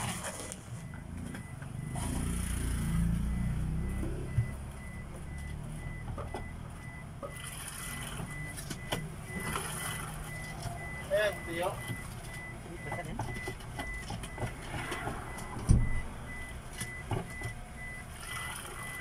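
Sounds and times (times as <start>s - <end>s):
vehicle engine rumbling: 0.0s - 19.0s
reversing beeper: 0.7s - 19.0s.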